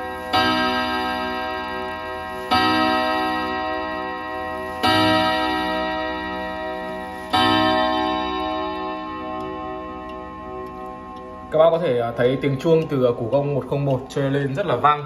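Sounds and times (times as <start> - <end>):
clock chime rods ringing: 0.0 - 15.0.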